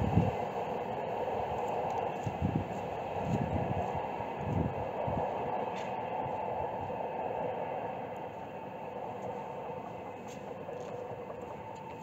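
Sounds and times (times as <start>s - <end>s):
electric train rolling rumble: 0.0s - 12.0s.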